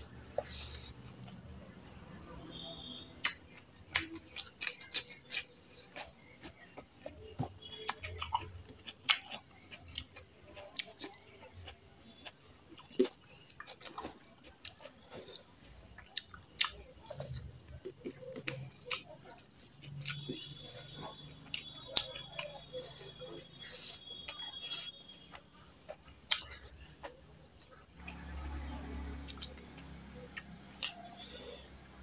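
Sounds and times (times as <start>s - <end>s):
person chewing and lip-smacking: 0.0s - 1.8s, 2.8s - 31.9s.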